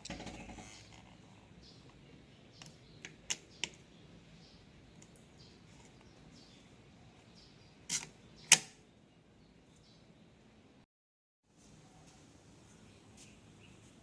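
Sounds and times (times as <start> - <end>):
faint background noise: 0.0 - 10.9, 11.5 - 14.0.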